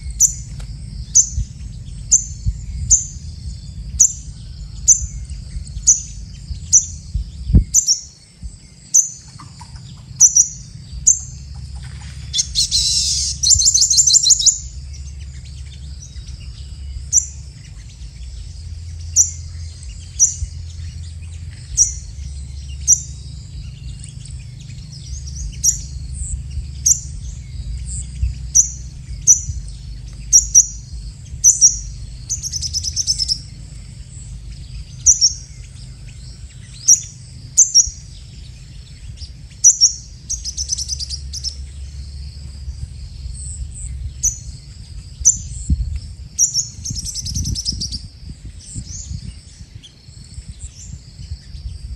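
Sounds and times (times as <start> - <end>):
bird chirping: 0.0 - 51.9
bird twittering trill: 0.0 - 51.9.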